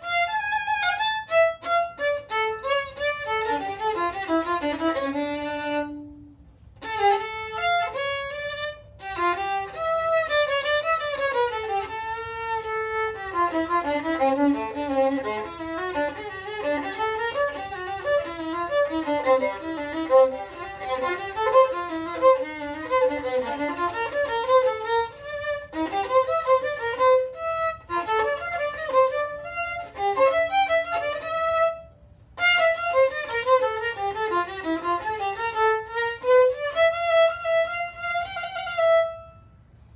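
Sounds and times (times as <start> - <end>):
solo violin melody: 0.0 - 39.9.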